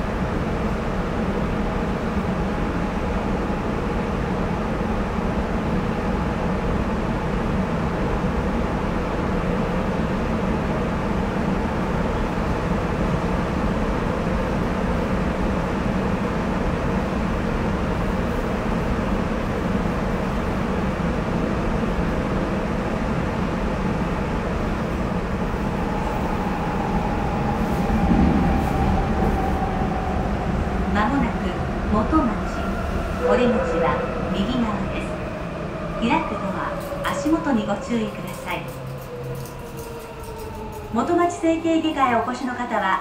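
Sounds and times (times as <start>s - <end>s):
subway train rumbling in tunnel: 0.0s - 43.0s.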